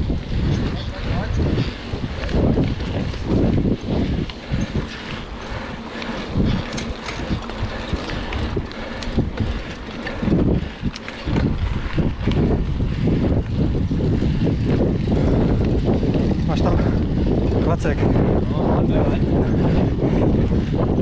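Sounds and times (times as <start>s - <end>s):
bike clicks and rattles: 0.0s - 21.0s
wind buffeting microphone: 0.0s - 21.0s.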